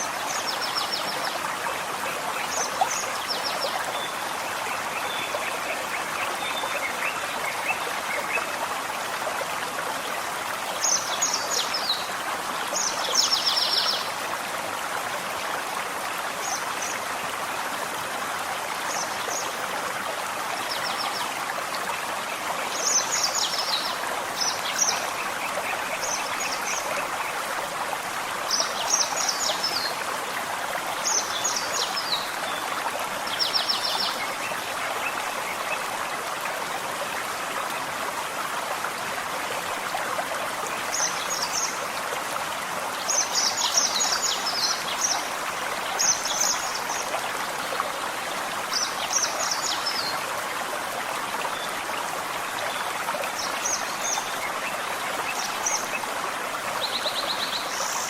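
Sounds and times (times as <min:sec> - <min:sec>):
forest stream running: 0:00.0 - 0:58.0.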